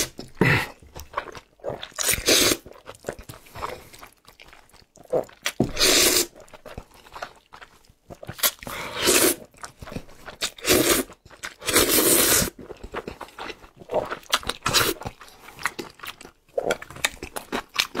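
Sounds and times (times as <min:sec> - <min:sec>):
chewing and mouth smacks: 0:00.0 - 0:08.8, 0:09.4 - 0:11.9, 0:12.5 - 0:18.0
noodles slurped: 0:00.0 - 0:16.0.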